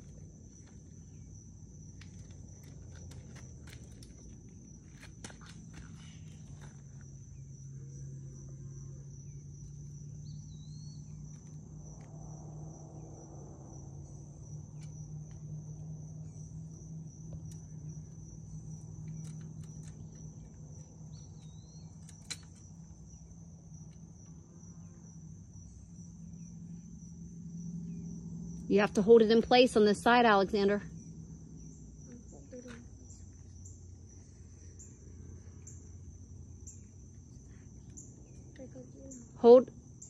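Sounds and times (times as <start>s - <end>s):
insects trilling: 0.0s - 40.0s
low steady hum: 0.0s - 40.0s.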